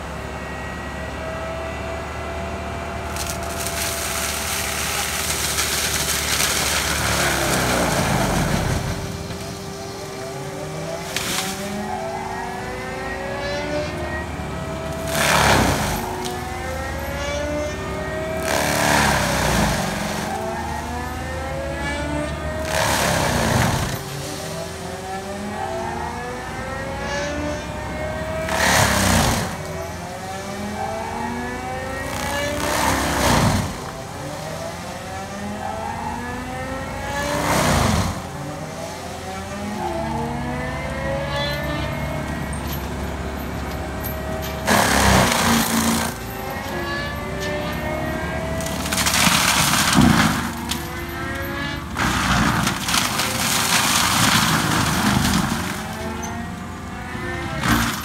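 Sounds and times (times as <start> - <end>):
diesel engine under load: 0.0 - 58.0
mulcher shredding palm trees: 0.0 - 58.0.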